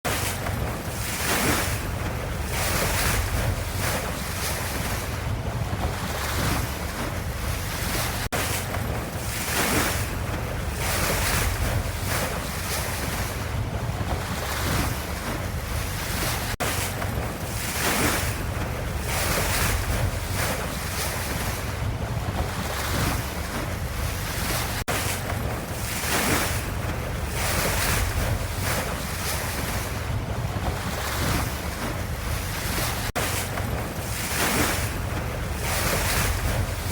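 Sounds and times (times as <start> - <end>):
ocean waves washing: 0.0 - 36.9.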